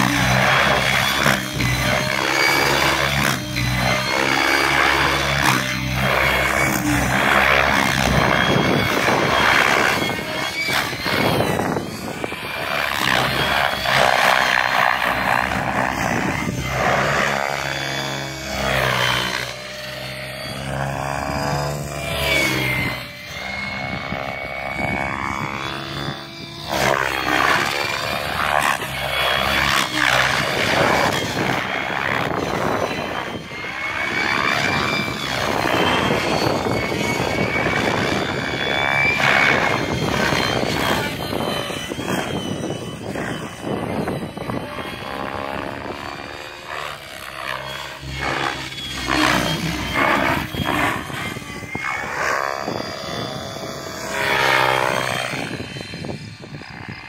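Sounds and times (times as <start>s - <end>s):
model helicopter rotor and motor whine: 0.0s - 57.0s.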